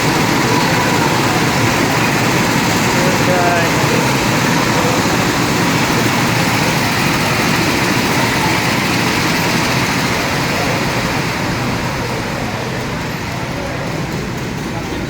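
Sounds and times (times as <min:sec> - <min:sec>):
go-kart engines running: 0:00.0 - 0:15.0.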